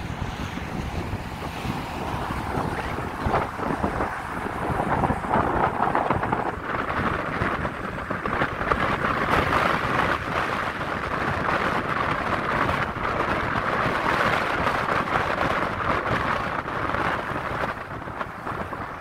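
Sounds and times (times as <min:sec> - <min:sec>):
road rumble: 0:00.0 - 0:19.0
wind buffeting microphone: 0:00.0 - 0:19.0.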